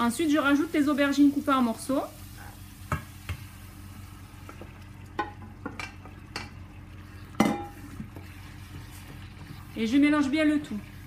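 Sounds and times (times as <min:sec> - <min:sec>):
sauce sizzling in pan: 0:00.0 - 0:11.0.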